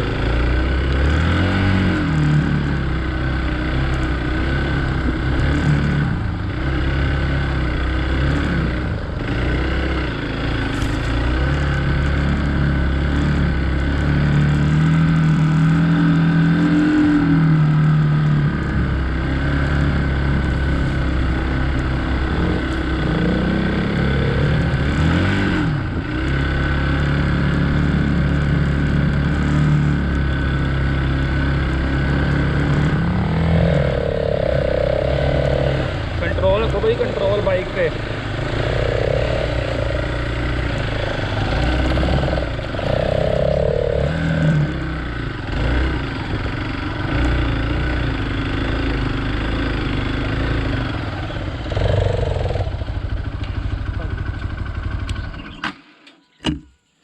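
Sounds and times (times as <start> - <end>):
motorcycle engine revving: 0.0 - 55.8.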